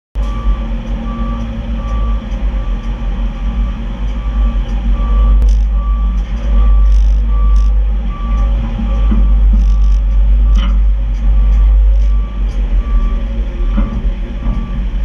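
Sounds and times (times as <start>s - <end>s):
diesel engine rumble: 0.2s - 15.0s
truck backup alarm beeping: 0.2s - 15.0s.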